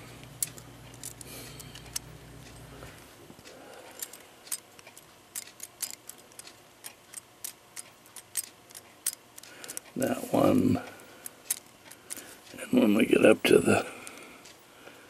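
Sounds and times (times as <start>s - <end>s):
clock wheels clicking: 0.3s - 2.7s, 3.4s - 14.6s.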